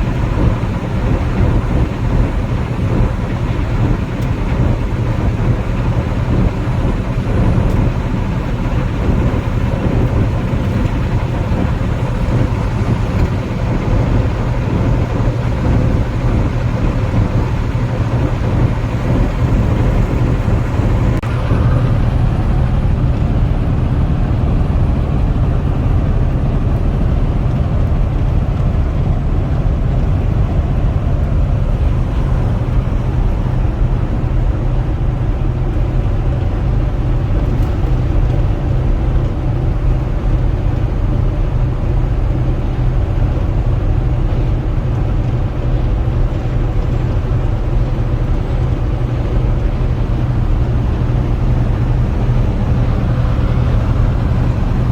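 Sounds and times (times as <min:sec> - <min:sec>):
engine rumble in vehicle cab: 0:00.0 - 0:54.9.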